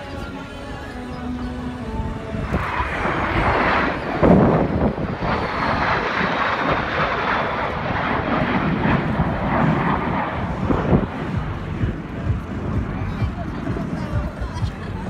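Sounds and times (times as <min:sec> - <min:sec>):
jet aircraft flying overhead: 0:00.0 - 0:15.0
jet engine whine: 0:00.0 - 0:15.0.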